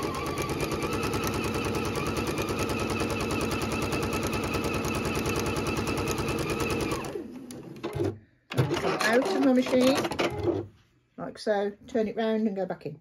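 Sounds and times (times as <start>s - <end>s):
sewing machine stitching: 0.0s - 10.7s.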